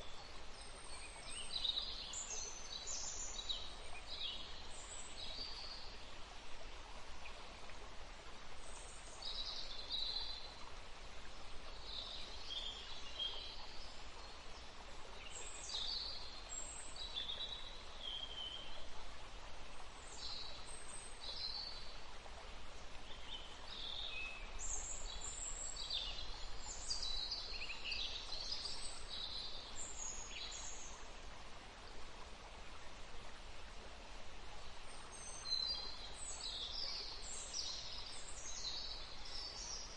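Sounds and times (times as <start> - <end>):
songbirds chirping: 0.0 - 39.9
woodland stream running: 0.0 - 39.9.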